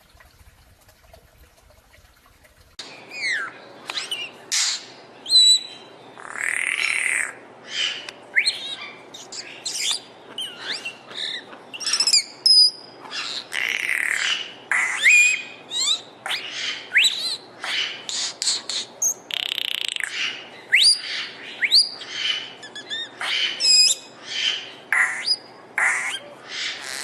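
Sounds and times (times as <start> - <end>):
bird calling: 3.0 - 27.0.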